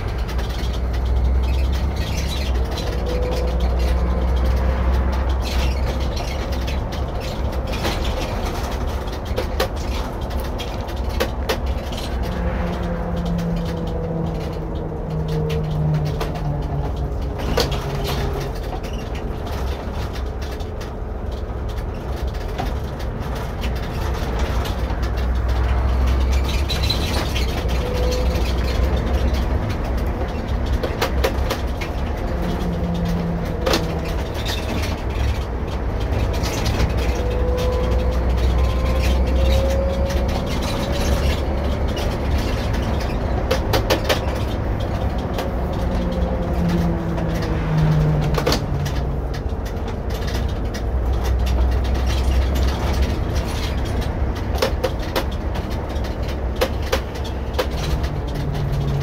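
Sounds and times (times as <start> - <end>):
bus engine and road rumble: 0.0 - 59.0
rattles and clicks: 0.0 - 59.0.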